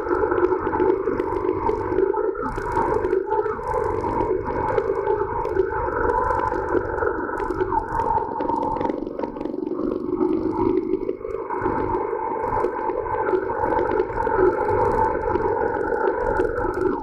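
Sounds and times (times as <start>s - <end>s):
small clicks and rattles: 0.0s - 17.0s.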